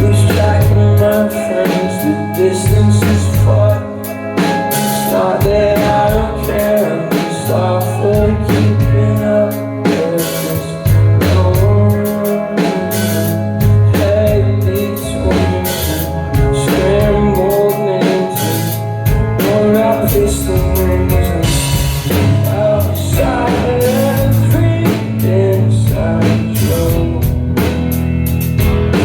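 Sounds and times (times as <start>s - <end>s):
person singing: 0.0s - 27.7s
drum kit: 0.0s - 29.0s
guitar: 0.0s - 29.0s
heavy bass line: 0.0s - 29.0s.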